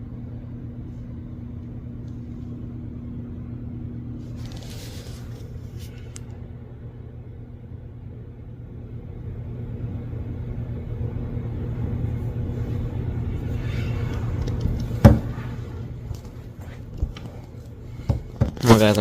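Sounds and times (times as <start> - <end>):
engine humming: 1.4 - 19.0.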